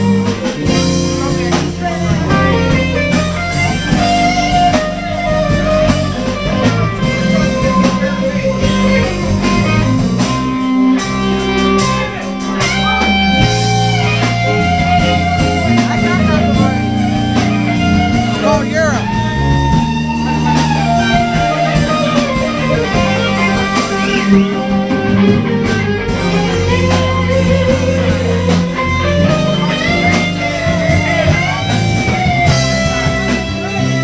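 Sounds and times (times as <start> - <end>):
bass: 0.0 - 34.0
drum kit: 0.0 - 34.0
electric guitar: 0.0 - 34.0.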